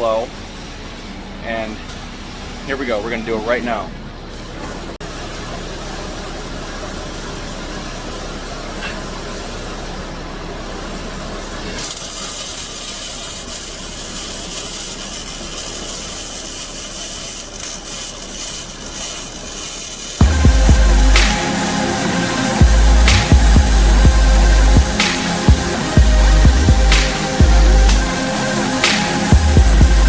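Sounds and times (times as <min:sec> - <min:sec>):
welding arc hiss and crackle: 0:00.0 - 0:30.0.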